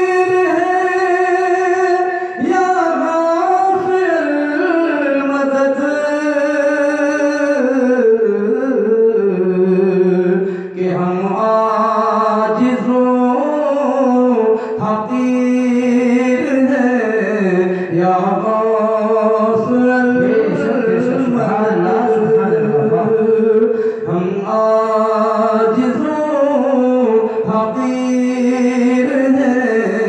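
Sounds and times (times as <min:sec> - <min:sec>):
man singing devotional song: 0:00.0 - 0:30.0.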